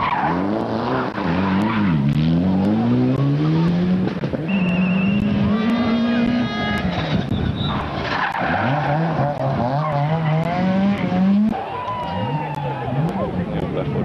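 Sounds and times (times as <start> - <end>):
rally car accelerating: 0.0 - 14.0
approaching rally car engine: 0.3 - 7.7, 8.4 - 14.0.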